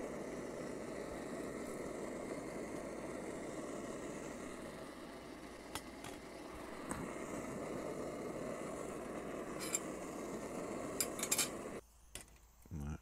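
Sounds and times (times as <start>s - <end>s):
gas stove burner rushing: 0.0s - 11.8s.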